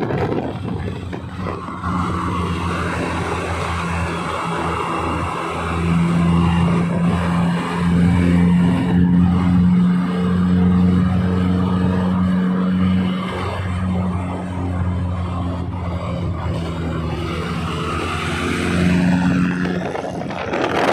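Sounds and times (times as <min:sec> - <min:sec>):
car engine droning: 0:00.0 - 0:20.9.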